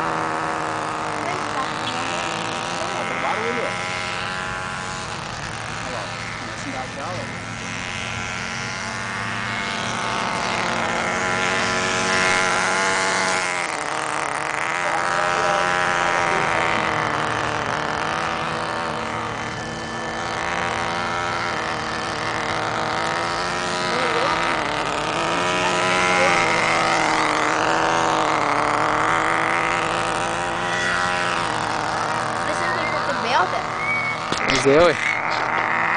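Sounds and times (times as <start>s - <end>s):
rc helicopter rotor whining: 0.0s - 35.9s.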